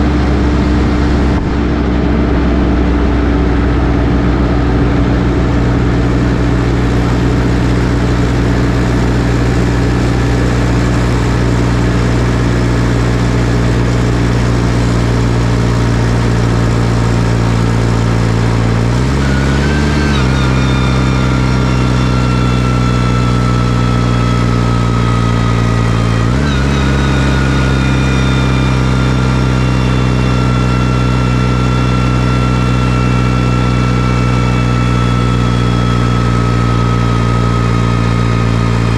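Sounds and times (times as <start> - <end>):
thin high whine: 0.0 - 38.9
tractor diesel engine running: 0.0 - 38.9.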